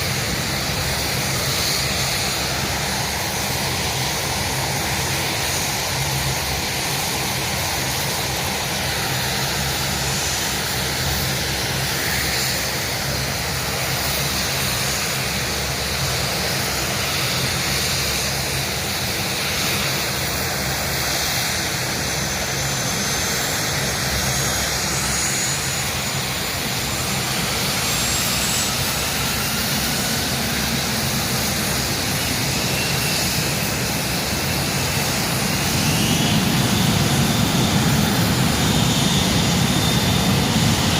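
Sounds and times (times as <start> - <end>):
aircraft engine overhead: 0.0 - 40.9.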